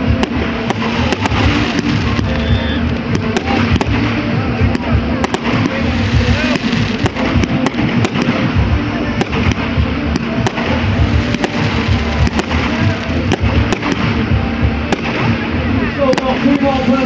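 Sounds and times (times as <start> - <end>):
firework bangs and crackles: 0.0 - 17.0.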